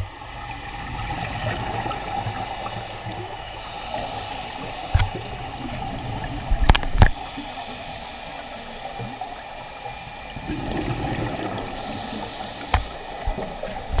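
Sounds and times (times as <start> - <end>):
gurgling regulator bubbles: 0.0 - 14.0
underwater water rush: 0.0 - 14.0.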